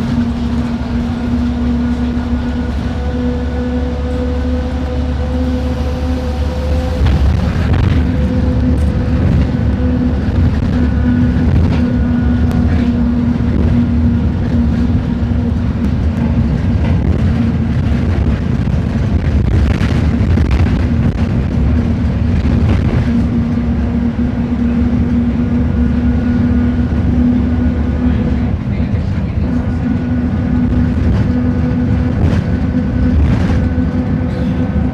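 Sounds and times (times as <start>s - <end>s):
bus diesel engine rumbling: 0.0s - 34.9s.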